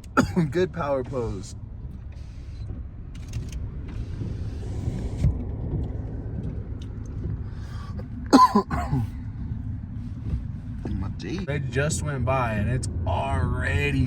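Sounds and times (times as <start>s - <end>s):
car driving heard from cabin: 0.0s - 14.0s.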